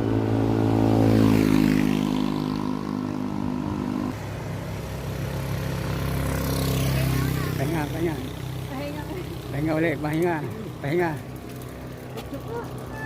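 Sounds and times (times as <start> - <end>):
vehicles passing by: 0.0 - 13.0.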